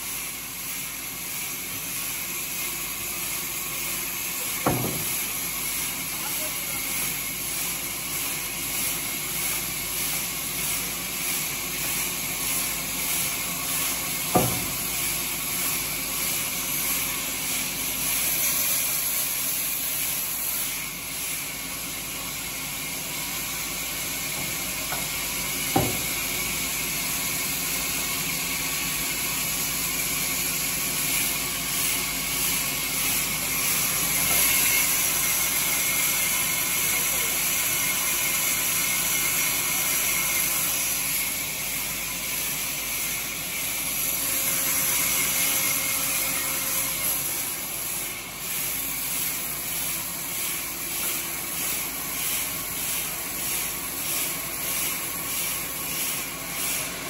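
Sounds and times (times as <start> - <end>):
band saw cutting log: 3.6 - 7.8, 8.9 - 21.6, 22.5 - 28.5, 29.1 - 57.0.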